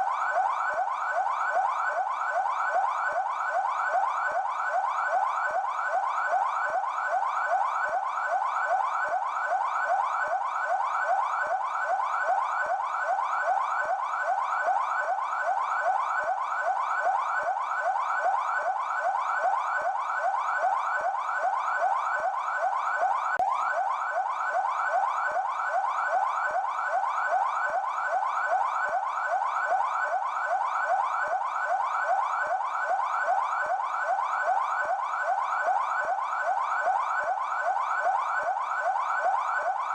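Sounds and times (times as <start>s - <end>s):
police siren yelp: 0.0s - 39.9s.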